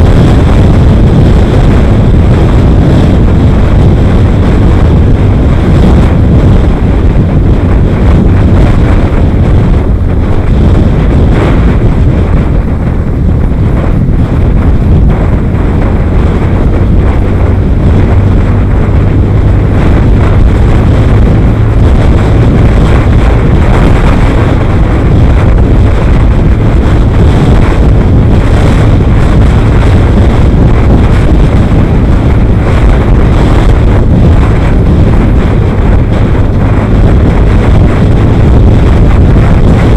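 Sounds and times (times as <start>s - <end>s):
vehicle and road drone: 0.0s - 39.9s
wind buffeting microphone: 0.0s - 39.9s.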